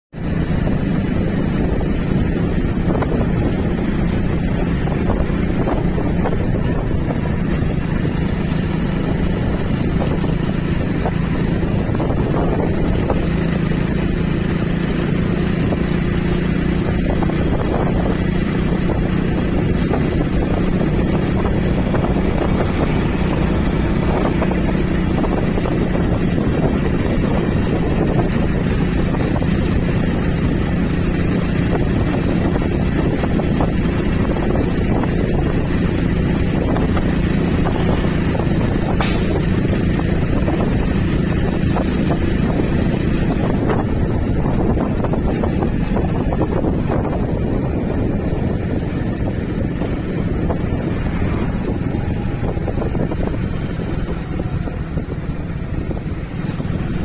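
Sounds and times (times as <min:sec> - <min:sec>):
vehicle engine running: 0:00.1 - 0:57.0
wind rumbling on microphone: 0:00.2 - 0:57.0.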